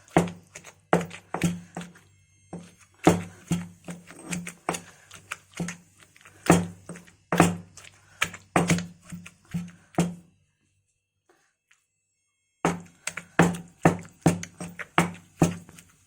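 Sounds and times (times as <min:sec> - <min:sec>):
pestle pounding in stone mortar: 0:00.0 - 0:10.2, 0:12.7 - 0:15.9.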